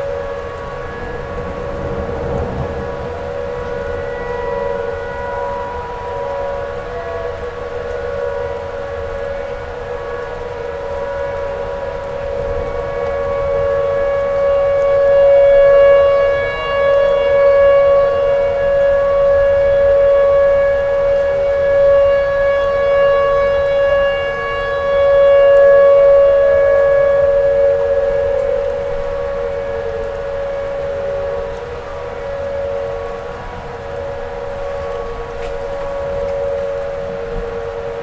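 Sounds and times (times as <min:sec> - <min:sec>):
warning siren wailing: 0:00.0 - 0:38.0.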